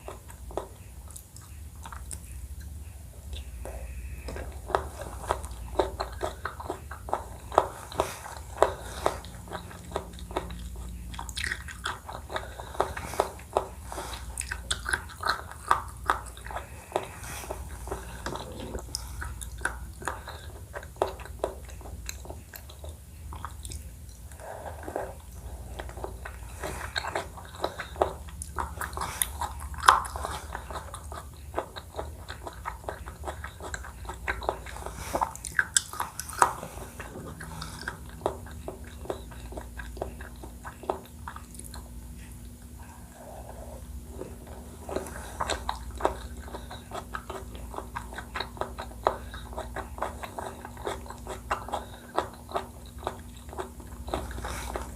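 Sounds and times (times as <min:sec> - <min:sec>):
chewing and biting: 0:00.0 - 0:54.9.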